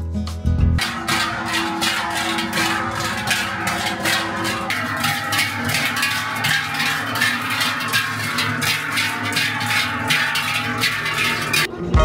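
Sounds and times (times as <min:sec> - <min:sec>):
background music with percussion beat: 0:00.0 - 0:12.0.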